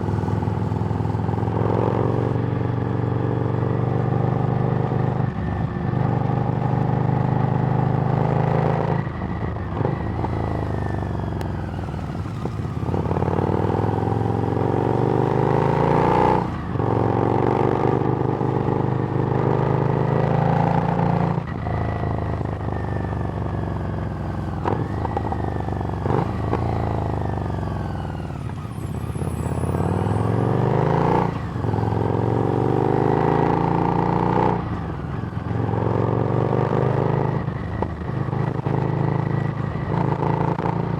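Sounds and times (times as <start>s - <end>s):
motorcycle engine revving: 7.6s - 40.9s.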